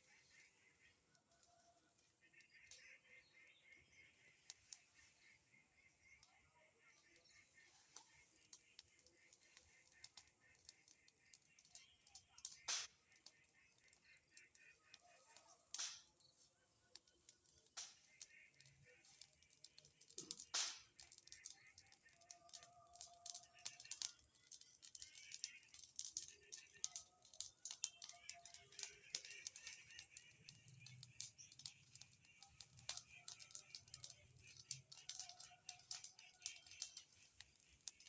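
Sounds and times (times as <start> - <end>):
wood bonfire crackling: 0.0 - 38.0.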